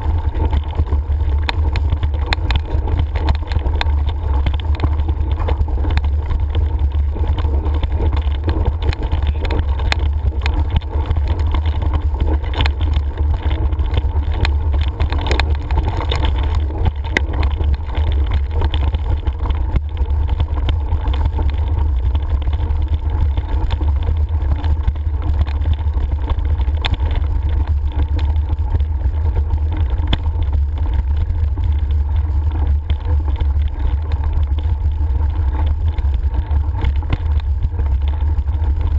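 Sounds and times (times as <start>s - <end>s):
clicks and rattles from bumps: 0.0s - 38.9s.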